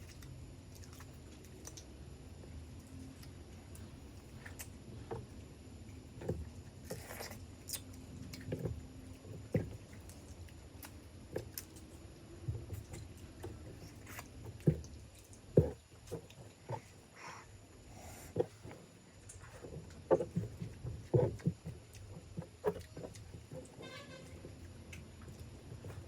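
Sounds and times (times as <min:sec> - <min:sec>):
chewing with wet clicks: 0:00.0 - 0:17.1, 0:18.0 - 0:26.0.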